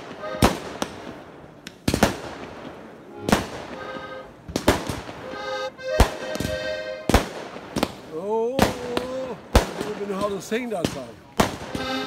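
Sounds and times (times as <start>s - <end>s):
fireworks bangs with echo: 0.0s - 5.4s, 6.0s - 12.0s.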